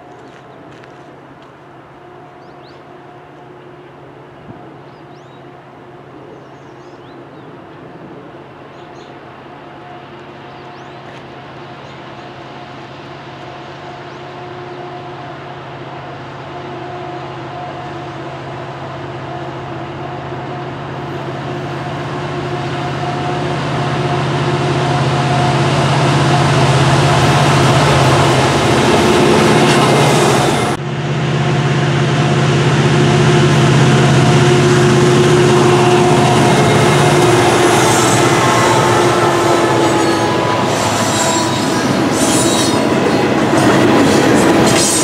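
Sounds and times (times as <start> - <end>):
wheel and rail noise: 0.0 - 30.8, 31.9 - 45.0
locomotive engines droning: 0.0 - 45.0.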